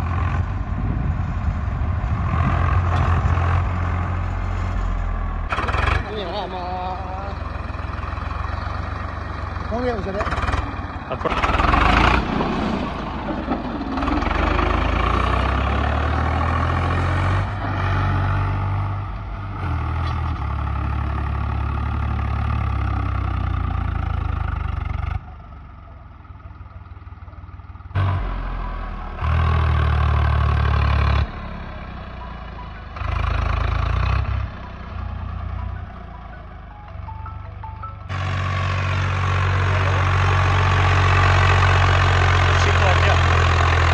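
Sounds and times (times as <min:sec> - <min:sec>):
tractor diesel engine running hard: 0:00.0 - 0:43.9.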